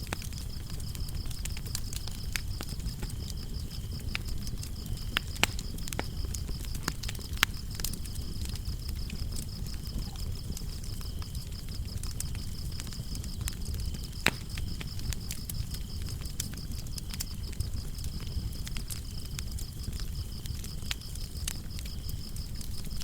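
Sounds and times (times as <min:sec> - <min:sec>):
crickets chirping: 0:00.0 - 0:23.0
wood fire crackling and popping: 0:00.0 - 0:23.0.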